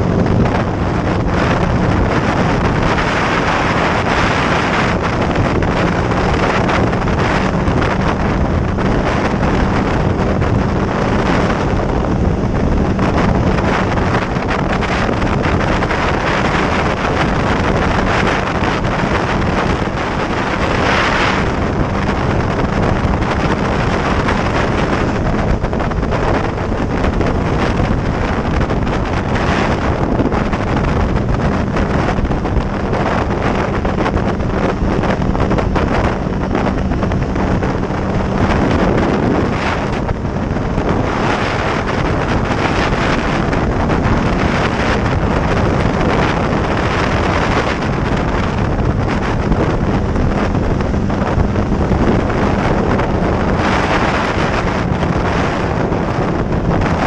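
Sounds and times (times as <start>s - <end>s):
motorcycle engine humming: 0.0s - 57.0s
wind buffeting microphone: 0.0s - 57.0s.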